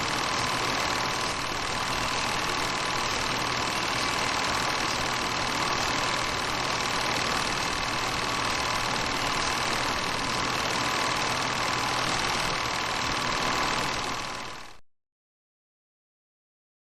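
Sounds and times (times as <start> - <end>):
small motor running with hiss: 0.0 - 14.8.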